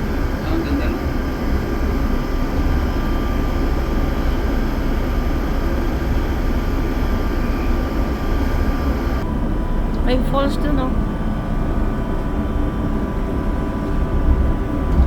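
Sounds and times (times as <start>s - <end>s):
faint steady whine: 0.0s - 15.0s
train rumbling and rolling: 0.0s - 15.0s.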